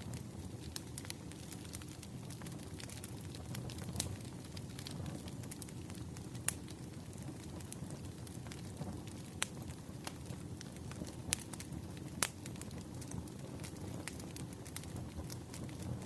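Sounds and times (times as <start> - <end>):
fire crackling and popping: 0.0 - 16.0
fire flames rumbling: 0.0 - 16.0.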